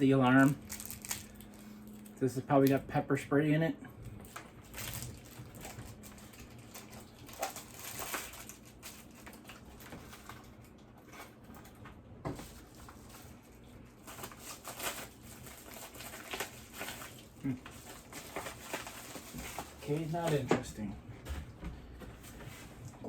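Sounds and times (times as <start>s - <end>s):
packaging rustling and crinkling: 0.1s - 2.8s, 4.2s - 20.8s.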